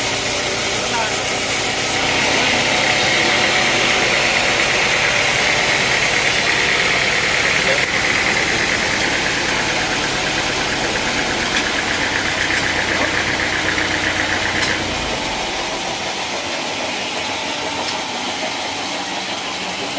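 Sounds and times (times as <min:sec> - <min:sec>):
sawmill machinery running: 0:00.0 - 0:19.9.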